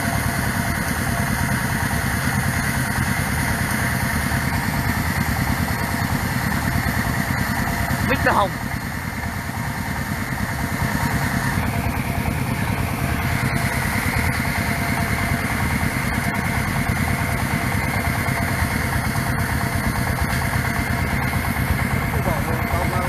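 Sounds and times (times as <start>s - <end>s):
drilling rig engine throbbing: 0.0s - 23.0s.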